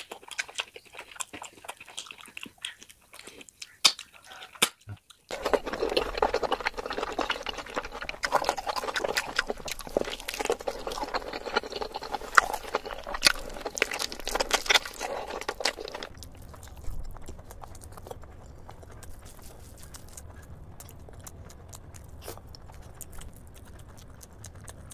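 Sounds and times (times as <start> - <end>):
low steady hum: 0.0 - 24.9
wet chewing and lip smacks: 0.0 - 24.9.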